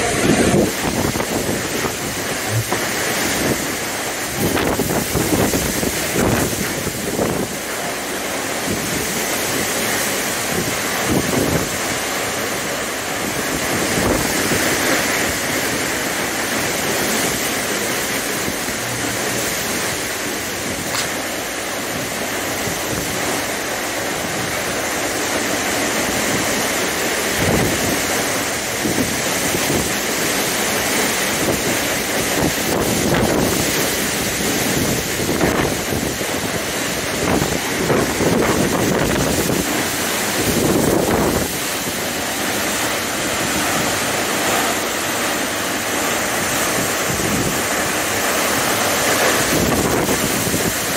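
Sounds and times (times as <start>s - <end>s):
gusts buffeting microphone: 0.0s - 50.9s
strong wind and rain rushing: 0.0s - 50.9s.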